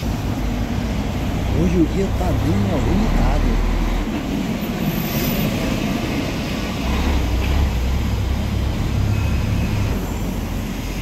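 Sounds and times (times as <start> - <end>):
busy street traffic: 0.0 - 11.0
passing vehicle engine rumble: 0.0 - 11.0.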